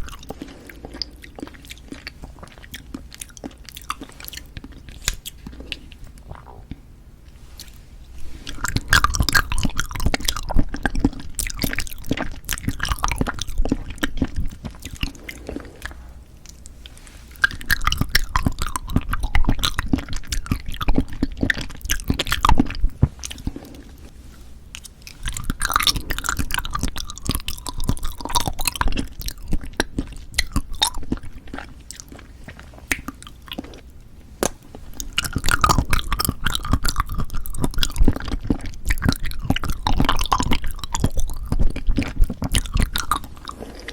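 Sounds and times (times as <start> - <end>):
chewing jelly: 0.0 - 43.9.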